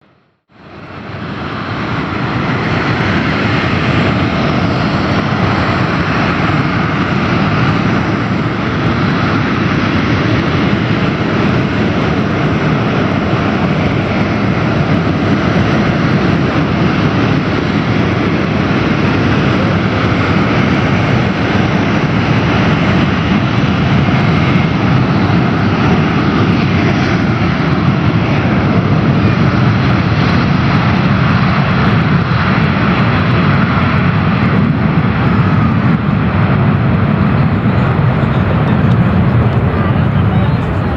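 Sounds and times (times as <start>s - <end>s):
jet engine roar: 0.0s - 40.9s.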